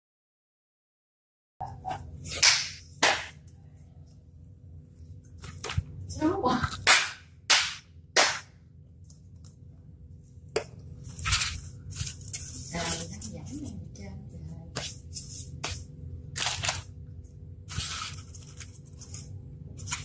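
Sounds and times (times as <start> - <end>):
steady low hum: 1.6 - 20.0.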